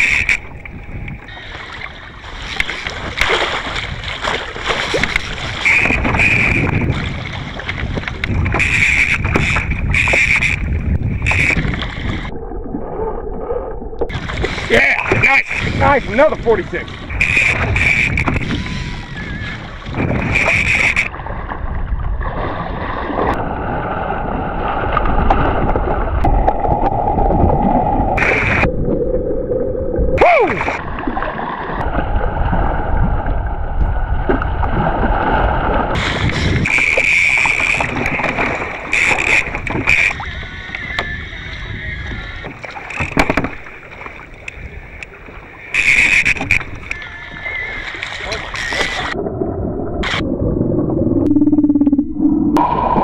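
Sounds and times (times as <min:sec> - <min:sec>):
water sloshing around a kayak: 0:00.0 - 0:28.7, 0:30.2 - 0:50.2
wind on microphone: 0:00.0 - 0:53.0.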